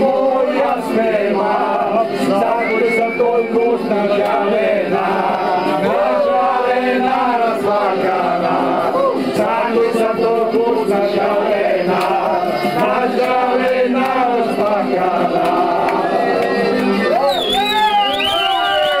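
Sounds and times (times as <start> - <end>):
group of men singing: 0.0 - 17.3.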